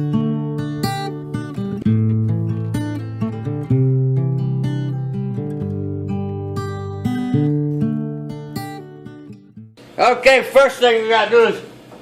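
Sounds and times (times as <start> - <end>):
acoustic guitar music: 0.0 - 11.8.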